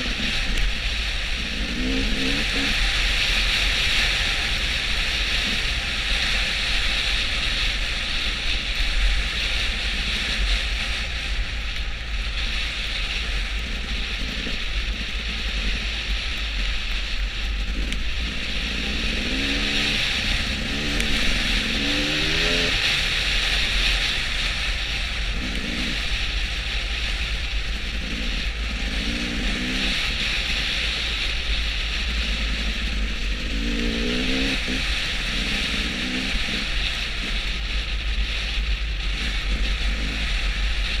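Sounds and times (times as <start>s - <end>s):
vehicle engine accelerating: 0.0s - 41.0s
wind noise: 0.0s - 41.0s.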